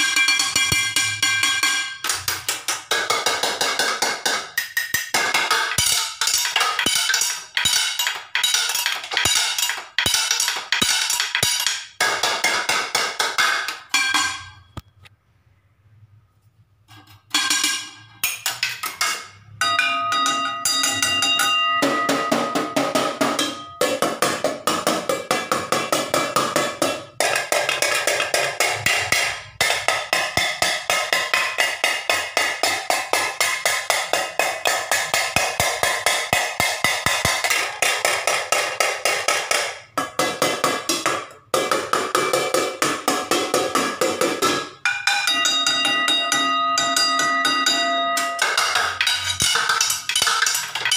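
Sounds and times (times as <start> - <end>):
pots and pans struck ringing: 0.0 - 14.8, 17.2 - 50.9.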